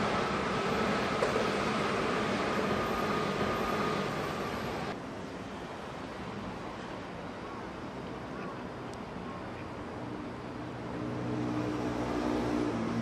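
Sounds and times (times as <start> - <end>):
distant train rumbling on tracks: 0.0 - 13.0.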